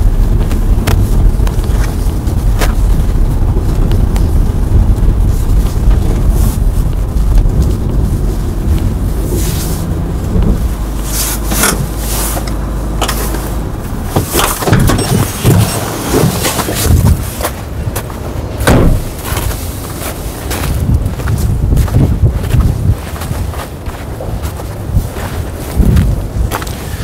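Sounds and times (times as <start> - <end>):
tyres on snow: 0.0 - 27.0
van engine running: 0.0 - 27.0
wind rumble on microphone: 0.0 - 27.0.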